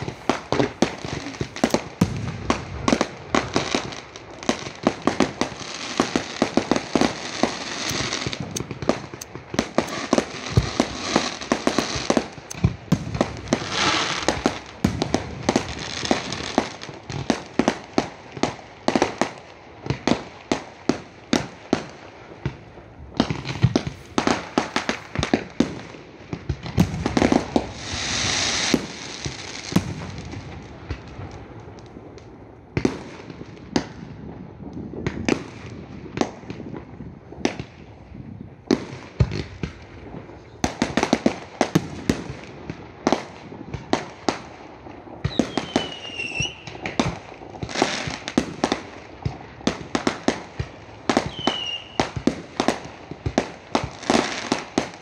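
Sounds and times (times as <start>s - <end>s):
crackling fireworks hiss: 0.0s - 55.0s
fireworks bangs: 0.0s - 55.0s.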